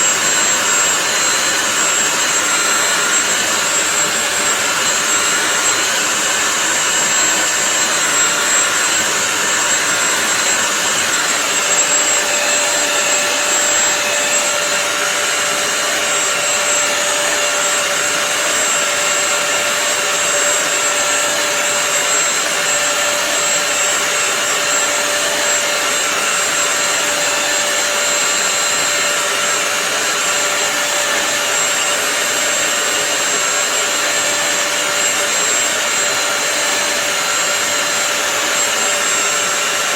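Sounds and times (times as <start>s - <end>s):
floor cleaner motor whine: 0.0s - 39.9s.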